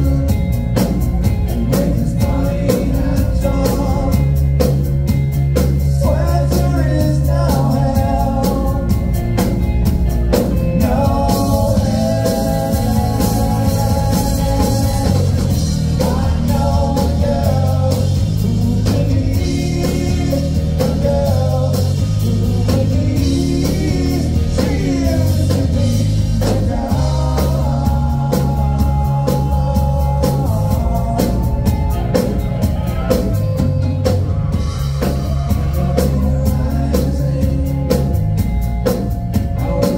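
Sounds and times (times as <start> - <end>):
person singing lead vocals: 0.0 - 4.8, 5.8 - 39.9
live rock band playing: 0.0 - 39.9.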